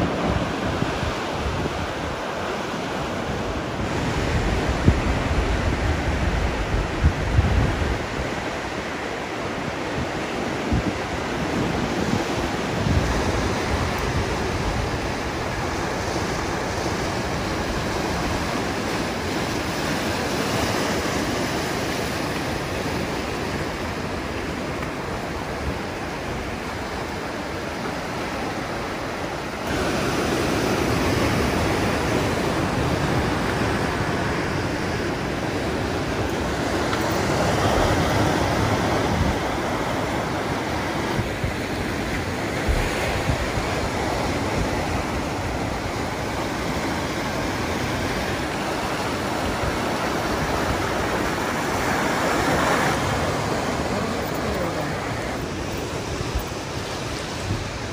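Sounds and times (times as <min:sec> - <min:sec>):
surf breaking over rocks: 0:00.0 - 0:57.9
wind buffeting microphone: 0:00.0 - 0:57.9.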